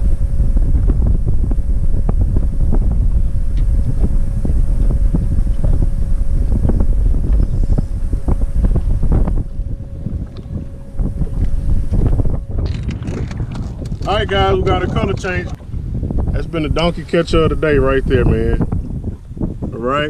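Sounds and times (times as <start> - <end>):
faint steady hum: 0.0 - 20.0
wind buffeting microphone: 0.0 - 20.0.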